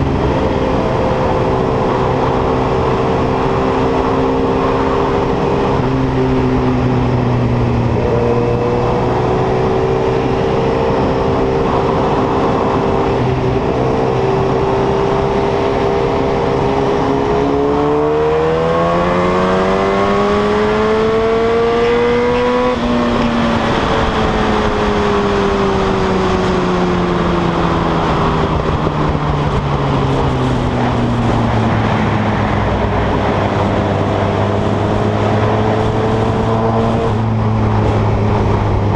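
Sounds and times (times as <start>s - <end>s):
loud motorcycle engine: 0.0s - 38.9s.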